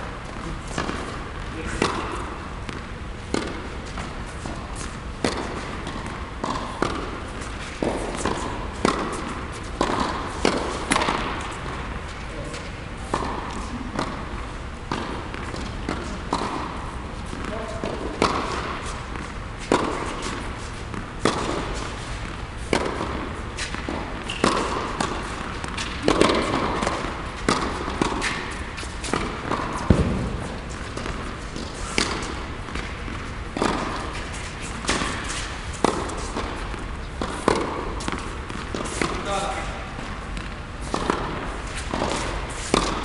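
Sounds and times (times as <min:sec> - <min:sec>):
tennis ball bounces: 0:00.2 - 0:43.0
tennis racket strikes: 0:00.7 - 0:11.9, 0:14.9 - 0:43.0.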